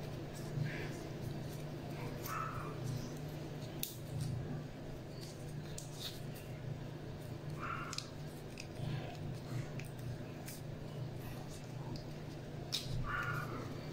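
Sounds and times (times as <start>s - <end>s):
leaf clicking and rustling: 0.0s - 13.9s
steady low hum: 0.0s - 13.9s.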